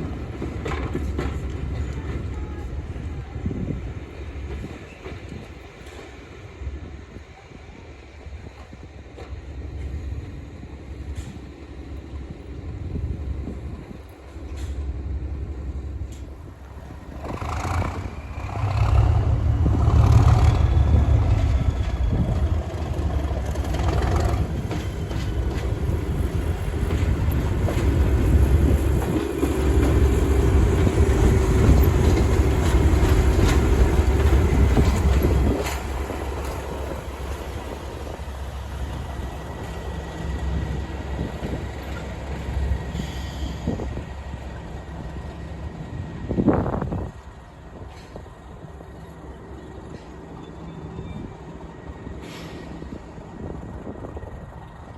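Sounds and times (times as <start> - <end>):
diesel locomotive engine rumbling: 0.0 - 54.9
train running noise: 0.0 - 54.9.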